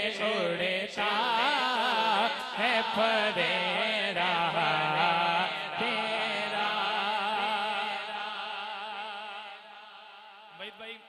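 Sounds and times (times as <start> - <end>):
man singing into a microphone: 0.0 - 9.7.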